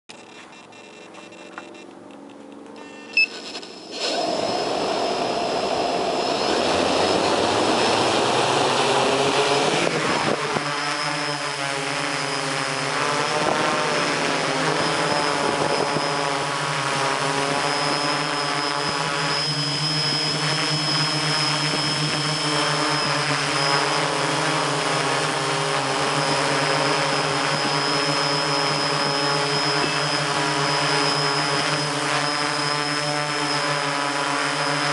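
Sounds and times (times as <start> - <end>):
drone motors whining: 0.1 - 34.9.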